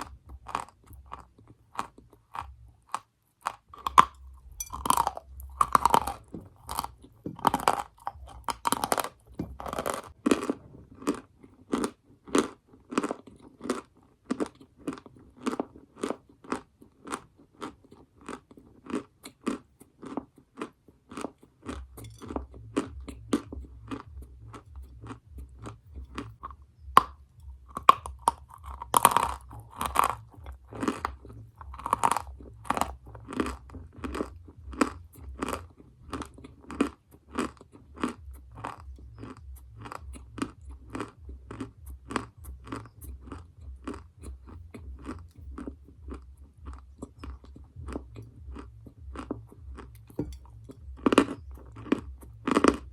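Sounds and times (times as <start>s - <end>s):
chewing and crunching chalk: 0.0s - 52.9s.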